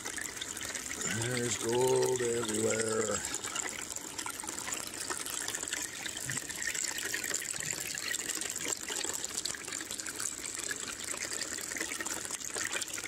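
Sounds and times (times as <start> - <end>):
water rushing over sluice: 0.0 - 13.0.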